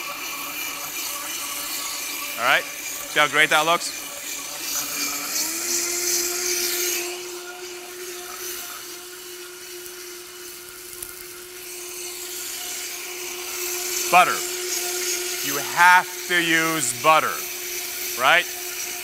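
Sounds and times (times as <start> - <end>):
blender motor whining: 0.0 - 19.0.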